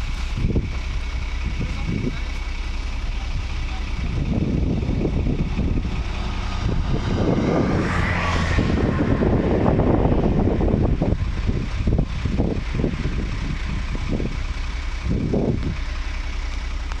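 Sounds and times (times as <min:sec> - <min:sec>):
heavy vehicle engine rumbling: 0:00.0 - 0:17.0
rising whine: 0:00.0 - 0:17.0.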